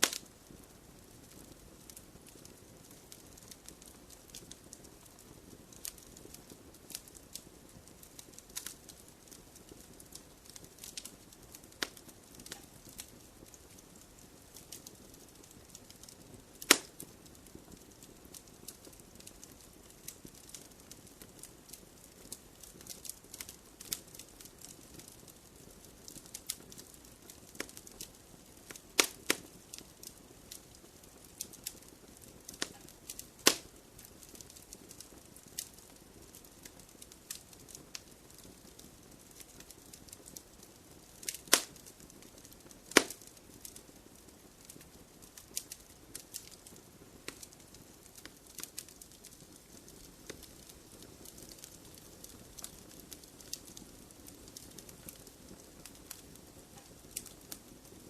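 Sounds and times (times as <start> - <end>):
loud fire pops: 0.0 - 43.9, 44.6 - 58.0
wood fire crackling: 0.0 - 58.0.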